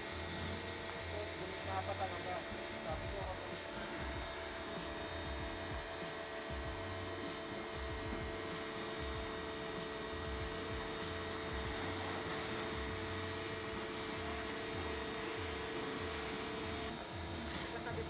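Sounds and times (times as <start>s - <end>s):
pressure washer motor humming: 0.0s - 18.0s.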